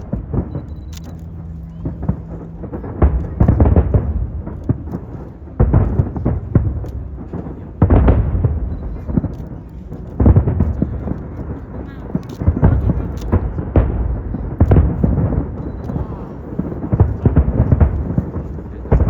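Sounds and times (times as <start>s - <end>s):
fireworks booming and crackling: 0.0s - 19.0s.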